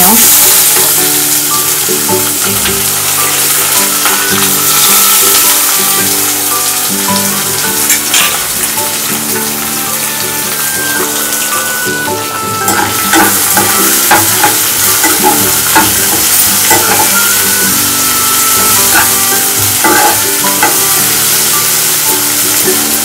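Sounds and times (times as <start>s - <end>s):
vegetables sizzling in hot oil: 0.0s - 23.0s
spatula scraping and tapping pan: 0.8s - 23.0s.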